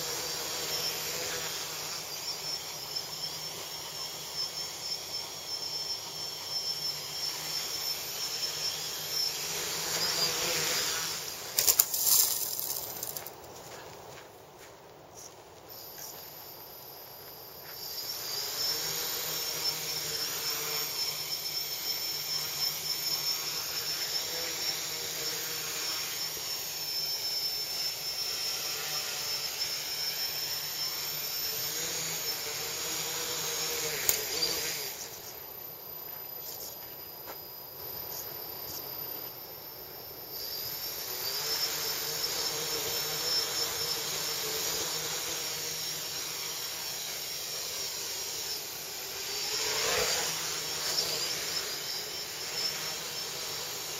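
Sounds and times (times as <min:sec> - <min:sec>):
drone propellers whining: 0:00.0 - 0:13.3, 0:15.7 - 0:53.9.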